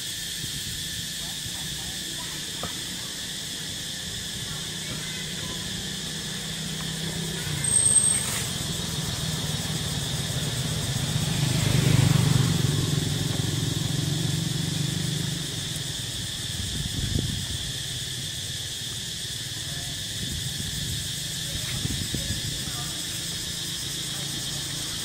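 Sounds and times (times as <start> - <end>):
vehicle engine humming: 0.6 - 25.0.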